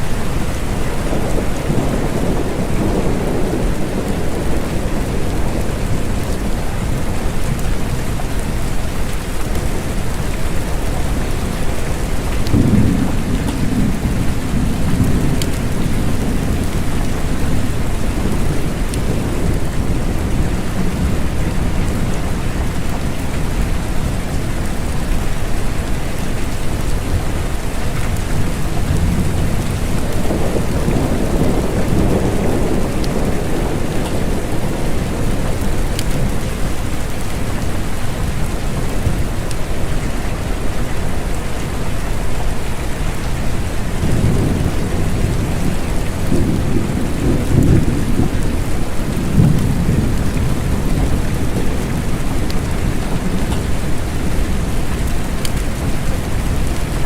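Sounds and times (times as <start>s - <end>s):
low rolls of thunder: 0.0s - 25.0s, 26.5s - 57.0s
steady rain: 0.0s - 57.0s.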